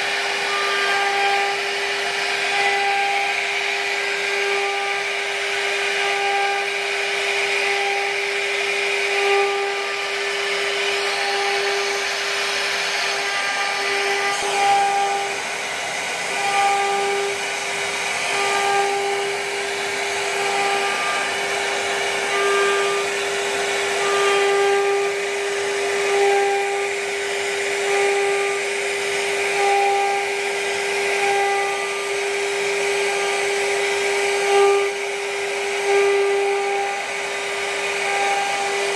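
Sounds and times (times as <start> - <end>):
bit carving wood: 0.0 - 38.9
router spindle whining: 0.0 - 38.9.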